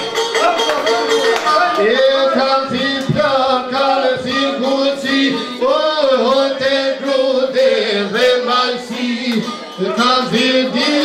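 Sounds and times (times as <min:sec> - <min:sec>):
man singing: 0:01.5 - 0:11.0.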